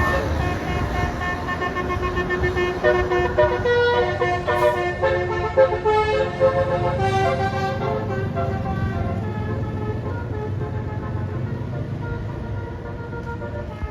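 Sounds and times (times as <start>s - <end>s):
engine and road rumble: 0.0s - 13.9s
musical air horn melody: 0.0s - 13.9s.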